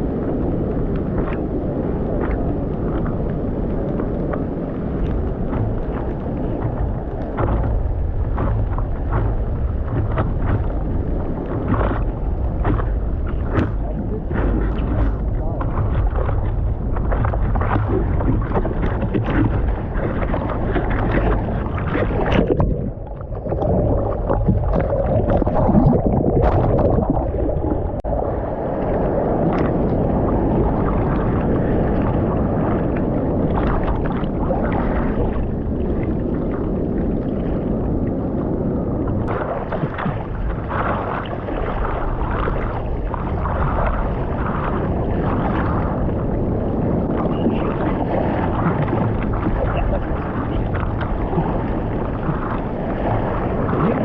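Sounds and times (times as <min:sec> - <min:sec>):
water rushing and splashing: 0:00.0 - 0:54.0
wind buffeting microphone: 0:00.0 - 0:54.0.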